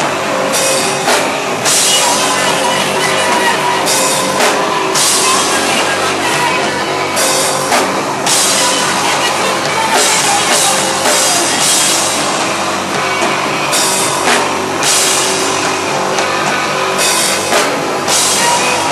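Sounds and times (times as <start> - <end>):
crashing cymbals: 0.0 - 18.9
loud rock band playing: 0.0 - 18.9.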